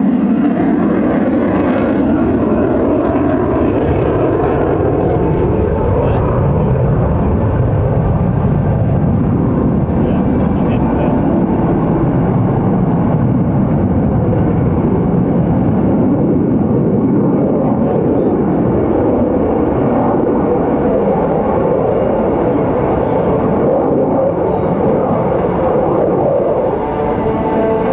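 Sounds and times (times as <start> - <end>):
jet fighter roar: 0.0 - 27.9.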